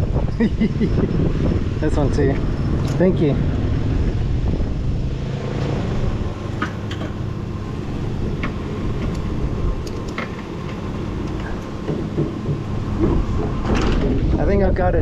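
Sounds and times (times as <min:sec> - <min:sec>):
engine idling: 0:01.1 - 0:14.8.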